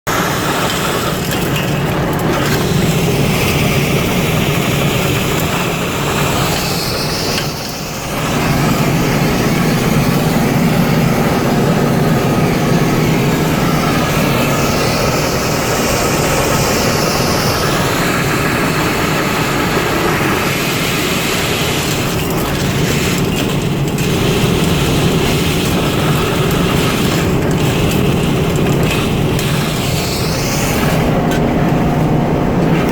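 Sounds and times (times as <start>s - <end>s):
industrial vacuum cleaner running: 0.1s - 32.9s.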